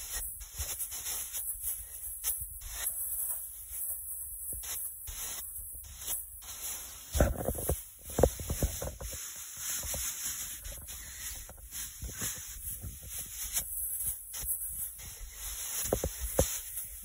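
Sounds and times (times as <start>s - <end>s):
pom-poms rustling: 0.0s - 17.0s.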